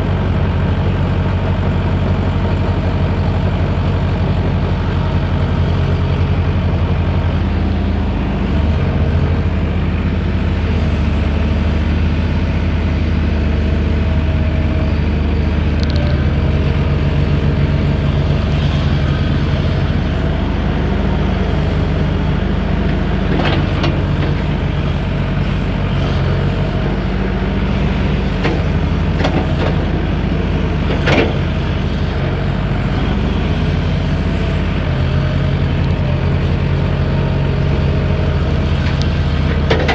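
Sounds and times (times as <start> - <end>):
excavator engine droning: 0.0 - 39.9.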